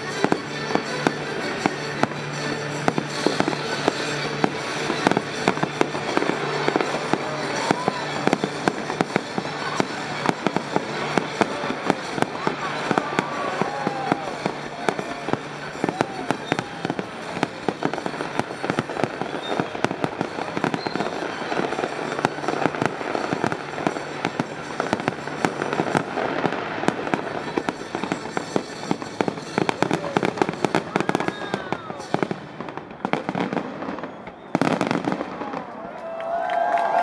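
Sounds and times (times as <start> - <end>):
fireworks bangs and crackling: 0.0 - 36.7.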